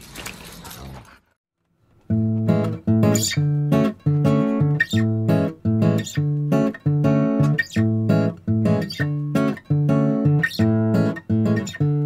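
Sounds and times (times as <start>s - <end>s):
strummed acoustic guitar chords: 2.1s - 12.0s.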